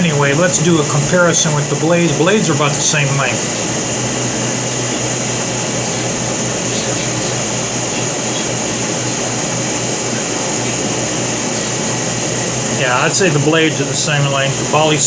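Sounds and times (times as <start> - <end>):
fan hiss with low hum: 0.0 - 15.0.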